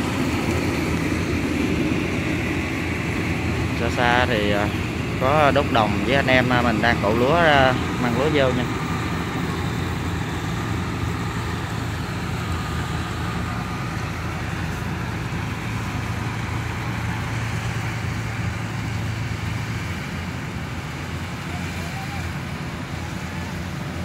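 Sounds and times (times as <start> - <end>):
diesel engines droning: 0.0 - 24.0.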